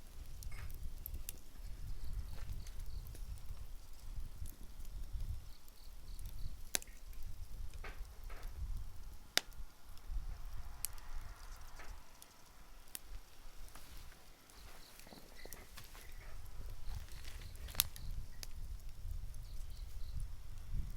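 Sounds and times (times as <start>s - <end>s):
bonfire crackling: 0.0s - 20.9s.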